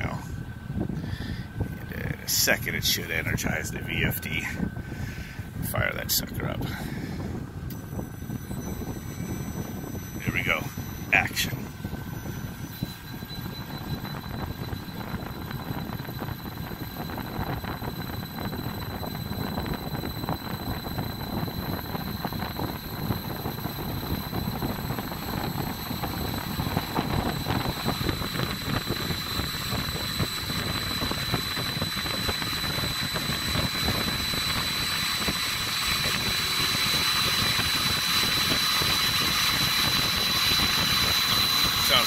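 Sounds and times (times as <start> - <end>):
high-pitched whine: 0.0 - 42.0
electric motor blower spinning up: 7.2 - 42.0.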